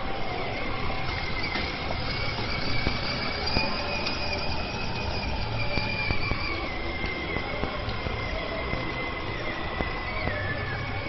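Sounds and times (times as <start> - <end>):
plastic wheels rumbling: 0.0 - 11.0
toy car motor whining: 0.0 - 11.0.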